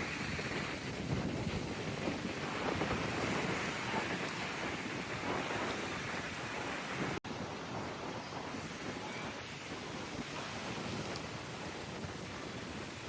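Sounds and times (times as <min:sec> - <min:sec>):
waves breaking ashore: 0:00.0 - 0:13.0
wind rumbling on microphone: 0:00.0 - 0:13.0.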